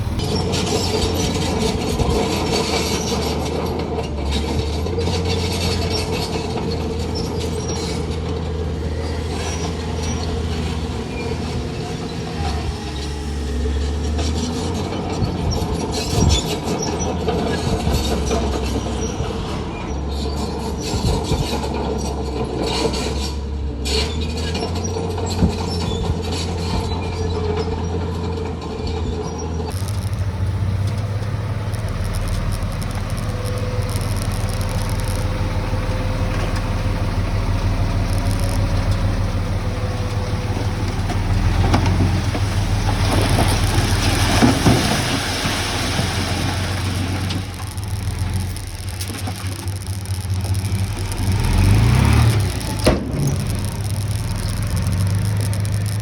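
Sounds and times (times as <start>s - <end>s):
diesel construction machinery: 0.0s - 56.0s.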